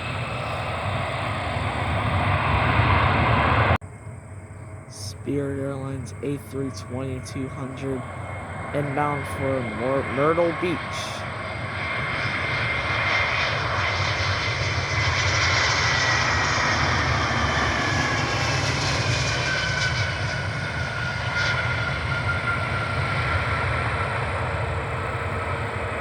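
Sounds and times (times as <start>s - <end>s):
jet airliner flying past: 0.0s - 26.0s.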